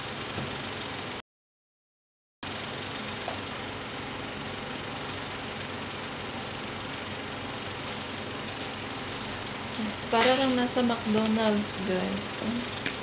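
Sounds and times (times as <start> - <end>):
ventilation fan drone: 0.0 - 1.2, 2.4 - 13.0.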